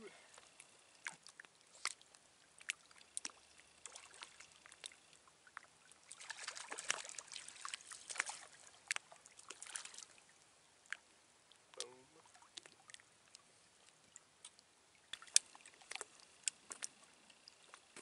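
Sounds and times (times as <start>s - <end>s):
small waves lapping against rocks: 0.0s - 18.0s.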